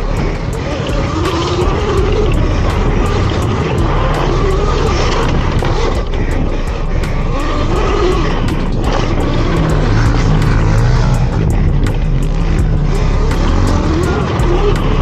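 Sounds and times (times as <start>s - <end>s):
low steady hum: 0.0s - 15.0s
trail and tyre noise: 0.0s - 15.0s
wind rushing over microphone: 0.0s - 15.0s.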